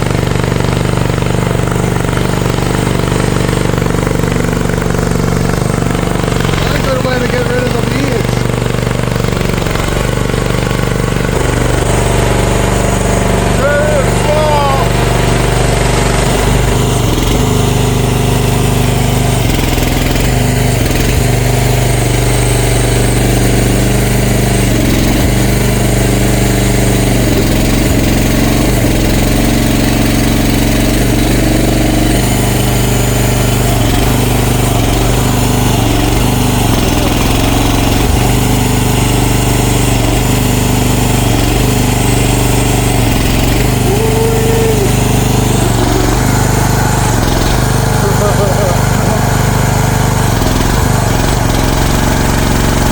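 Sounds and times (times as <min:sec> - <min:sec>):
excavator engine running: 0:00.0 - 0:52.9.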